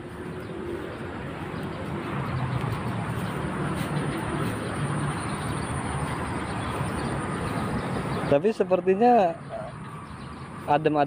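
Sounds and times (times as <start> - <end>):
traffic rumble overhead: 0.0 - 11.0.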